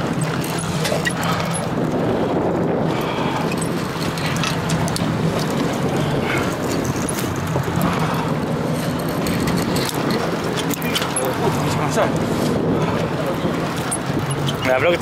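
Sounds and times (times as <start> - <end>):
boat engine humming: 0.0 - 15.0
wind and sea noise: 0.0 - 15.0.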